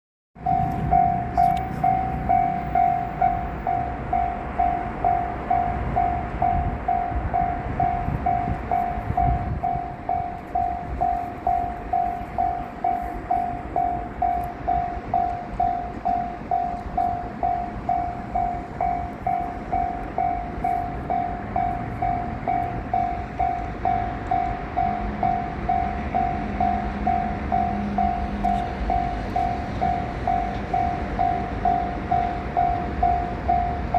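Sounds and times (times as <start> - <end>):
freight train rumbling: 0.4 - 33.9
level crossing warning bell: 0.4 - 33.9.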